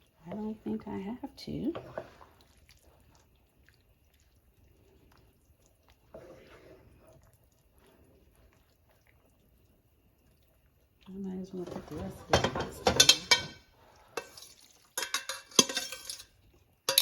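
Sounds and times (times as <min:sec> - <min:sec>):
pasta squishing in sauce: 0:01.7 - 0:17.0.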